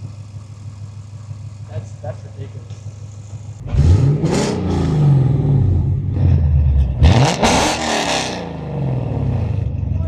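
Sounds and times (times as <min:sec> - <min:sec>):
car engine revving: 0:01.4 - 0:10.0.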